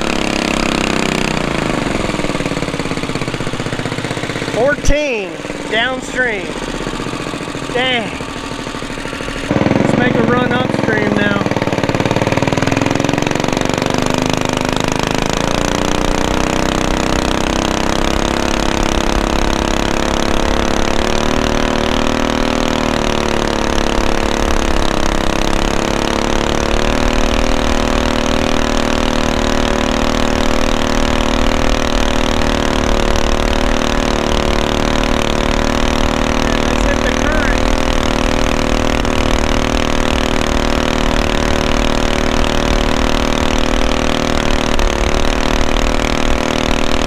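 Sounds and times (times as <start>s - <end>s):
boat engine running hard: 0.0s - 47.0s.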